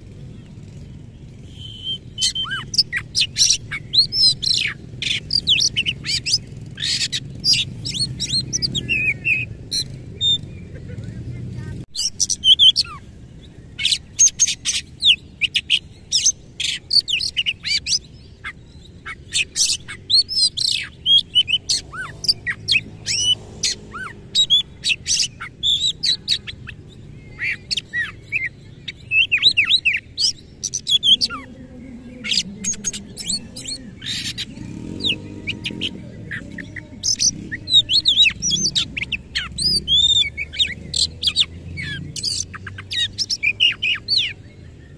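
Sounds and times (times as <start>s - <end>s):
bird singing harsh notes and whistles: 1.3s - 10.6s, 11.9s - 13.1s, 13.7s - 31.5s, 32.2s - 44.9s.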